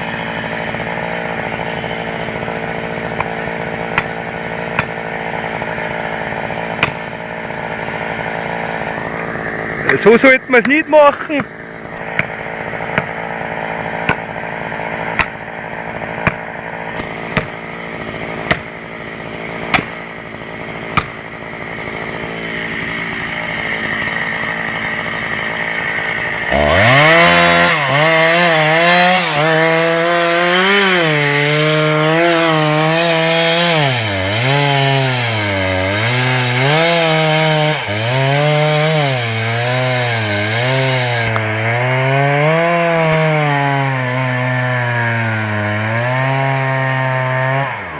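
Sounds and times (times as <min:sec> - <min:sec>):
chainsaw running at high revs: 0:00.0 - 0:47.9.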